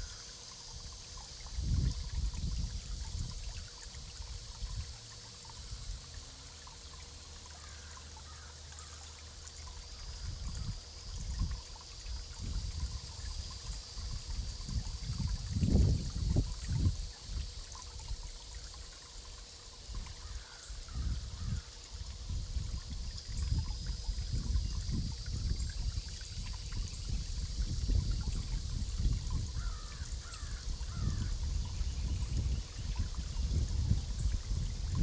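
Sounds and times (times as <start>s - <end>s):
steady high hiss: 0.0s - 34.8s
water trickling and gurgling: 0.0s - 35.0s.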